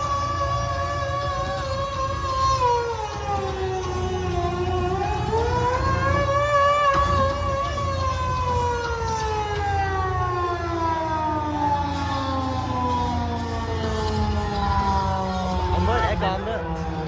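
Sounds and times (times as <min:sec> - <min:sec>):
crowd din: 0:00.0 - 0:17.0
stadium siren winding down: 0:00.0 - 0:17.0.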